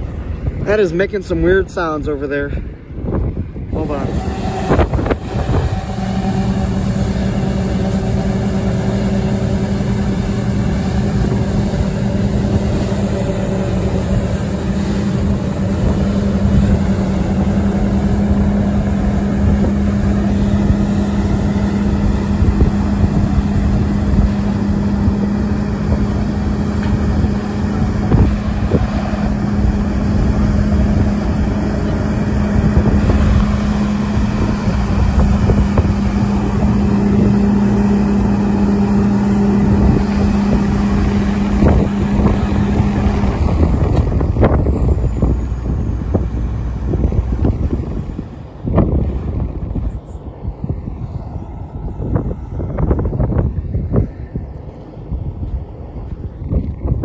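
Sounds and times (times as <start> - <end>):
combine engine drone: 0.0 - 57.0.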